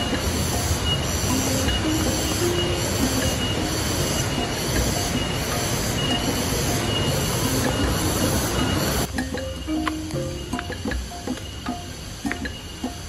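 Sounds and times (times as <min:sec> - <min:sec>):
cicadas buzzing in pulsing waves: 0:00.0 - 0:13.0
rush of falling water: 0:00.0 - 0:13.0.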